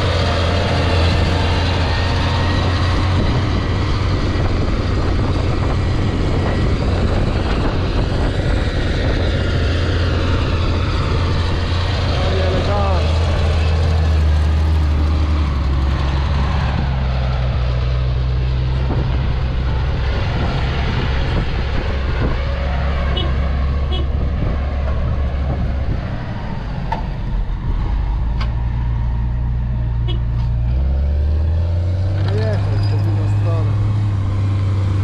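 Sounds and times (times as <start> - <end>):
diesel engine drone: 0.0 - 35.0.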